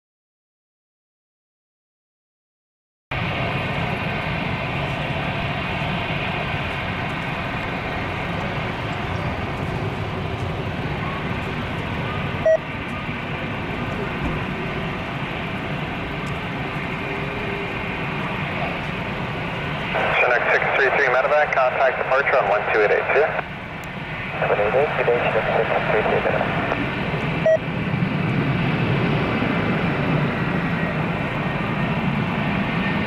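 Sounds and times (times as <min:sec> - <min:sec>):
jet airliner rumble with whine: 0:03.1 - 0:33.0.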